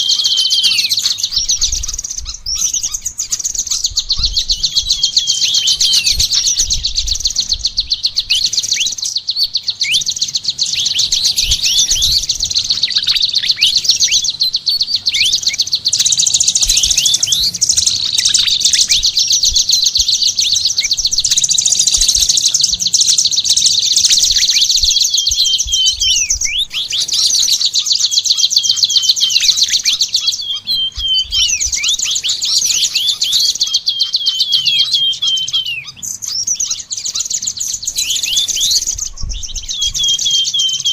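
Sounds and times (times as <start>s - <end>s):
songbird singing trills: 0.0s - 40.9s.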